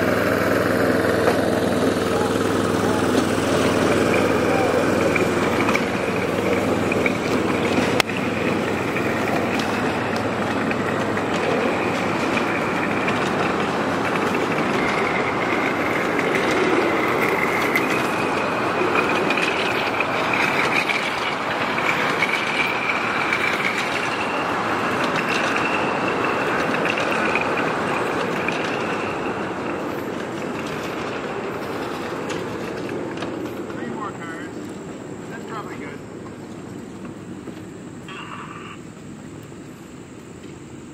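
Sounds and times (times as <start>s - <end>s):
high-pitched whine: 0.0s - 40.9s
wheels clicking over rail joints: 0.0s - 40.9s.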